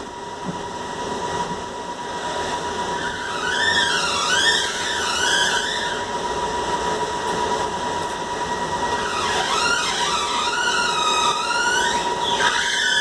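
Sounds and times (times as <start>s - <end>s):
electric drive whine: 0.0s - 13.0s.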